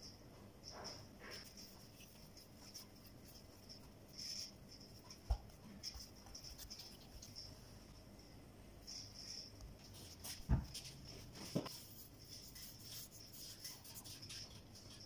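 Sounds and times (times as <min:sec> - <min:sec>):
hands rolling dough: 0:00.0 - 0:08.1, 0:08.8 - 0:15.0.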